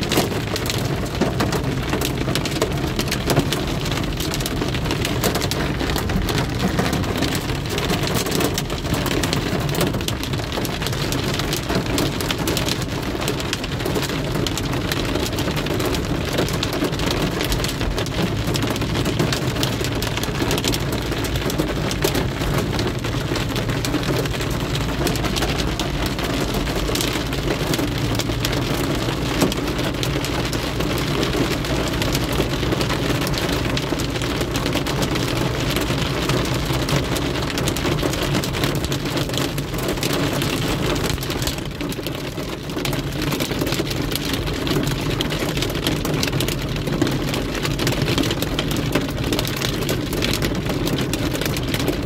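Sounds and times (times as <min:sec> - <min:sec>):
car humming on wet road: 0:00.0 - 0:52.0
heavy rain on a car: 0:00.0 - 0:52.0.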